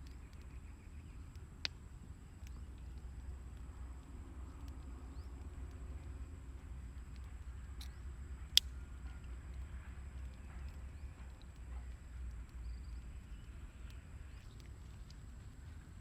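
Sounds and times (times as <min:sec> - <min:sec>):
faint ticks: 0:00.0 - 0:16.0
low outdoor rumble: 0:00.0 - 0:16.0.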